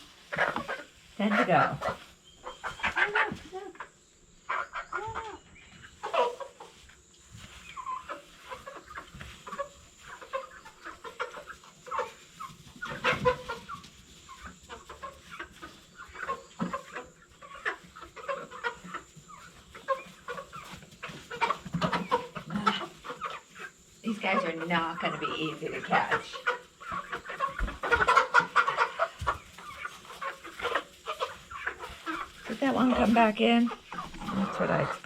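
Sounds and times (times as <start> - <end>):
chickens clucking and squawking: 0.0 - 35.0.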